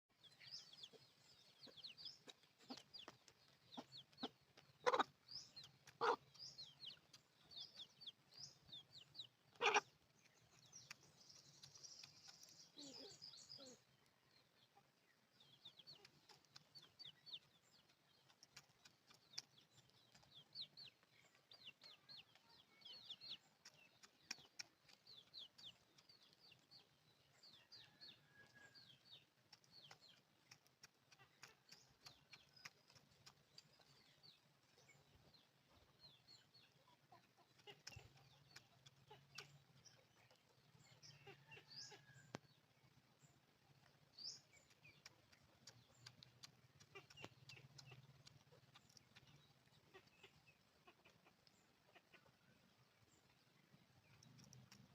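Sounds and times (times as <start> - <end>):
chickens chirping and clucking: 0.3 - 54.9.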